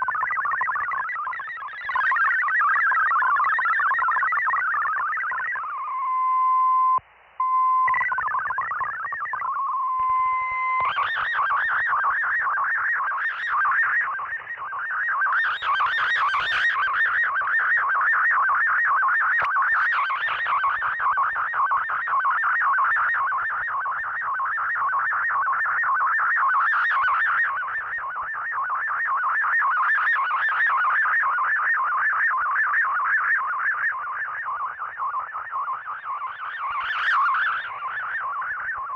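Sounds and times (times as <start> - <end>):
digital data signal tones: 0.0 - 38.9.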